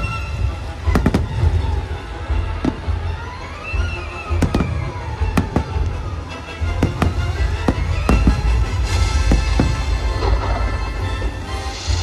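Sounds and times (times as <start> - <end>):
fireworks bangs: 0.0 - 11.9
orchestral music over loudspeakers: 0.0 - 12.0.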